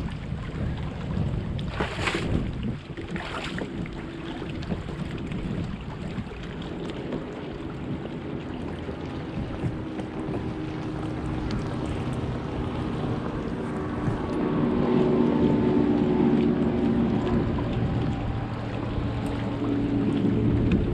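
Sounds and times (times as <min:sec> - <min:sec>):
water noise: 0:00.0 - 0:20.9
wind buffeting microphone: 0:00.0 - 0:20.9.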